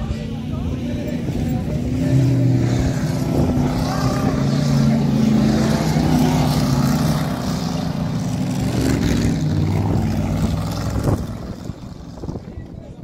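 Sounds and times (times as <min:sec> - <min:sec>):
race car engines racing past: 0:00.0 - 0:13.0.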